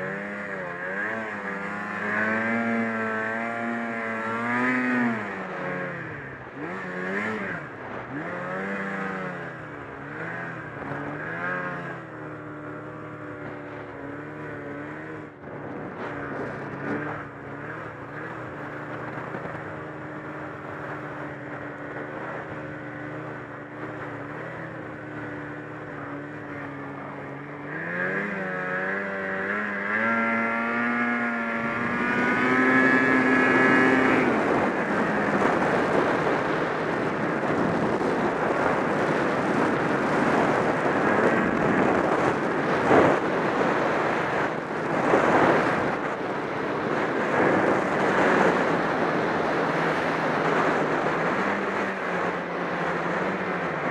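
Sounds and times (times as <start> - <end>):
snowmobile engine revving: 0.0 - 53.9
wind rushing on microphone: 0.0 - 53.9.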